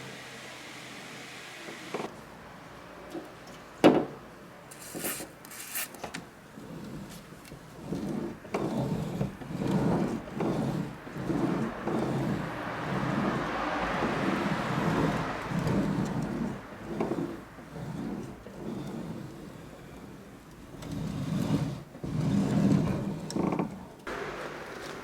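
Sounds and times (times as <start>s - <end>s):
sliding door creaking: 4.7s - 25.0s.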